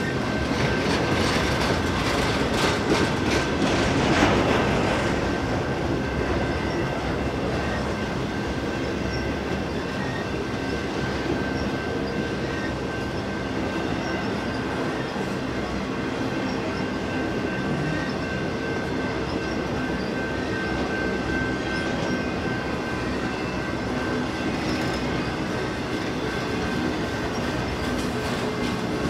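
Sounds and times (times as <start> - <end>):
train rumble: 0.0 - 29.0
train wheels clacking: 0.0 - 29.0.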